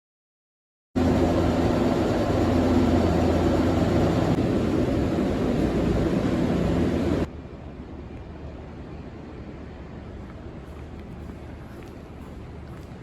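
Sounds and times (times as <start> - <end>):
diesel engines droning: 1.0 - 13.0.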